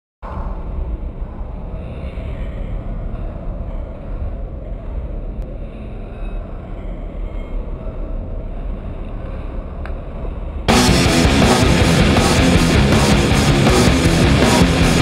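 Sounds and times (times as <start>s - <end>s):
low rumble: 0.2s - 15.0s.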